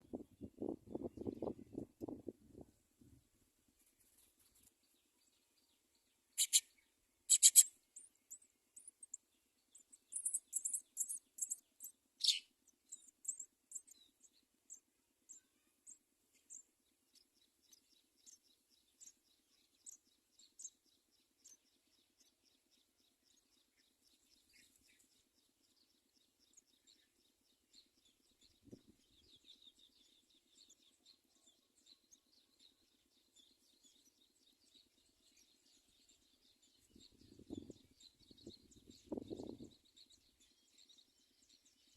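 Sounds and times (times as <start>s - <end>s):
sparrow chirping: 0.0s - 2.3s, 4.5s - 41.9s
soft bird twittering: 4.5s - 41.9s.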